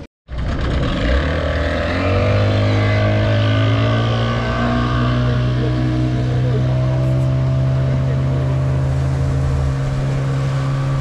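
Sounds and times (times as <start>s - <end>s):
outboard motor running: 0.3s - 11.0s.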